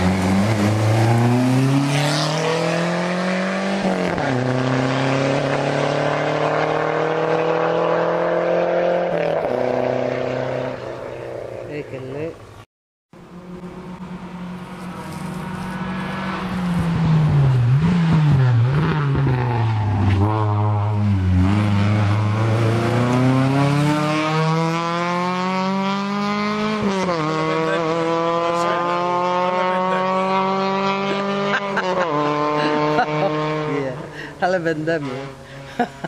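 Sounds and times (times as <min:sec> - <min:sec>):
rally car engine revving: 0:00.0 - 0:11.7, 0:13.2 - 0:36.0.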